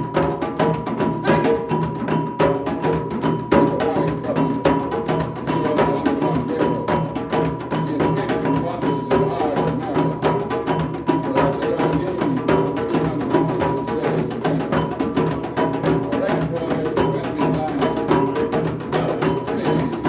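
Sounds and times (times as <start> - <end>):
rapid drum strokes: 0.0 - 20.0.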